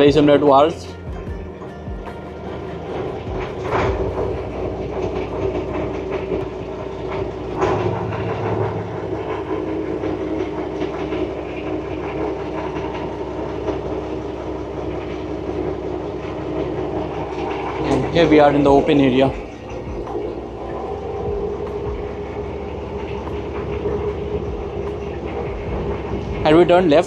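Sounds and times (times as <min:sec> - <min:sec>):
boat engine rumbling: 0:00.0 - 0:27.0.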